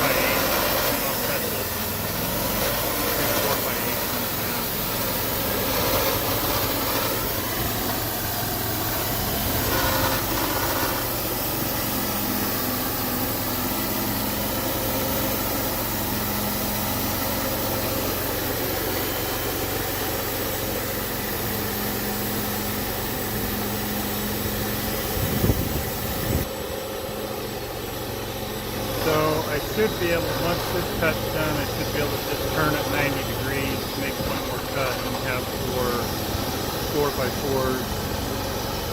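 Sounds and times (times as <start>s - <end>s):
band sawmill cutting timber: 0.0s - 38.9s.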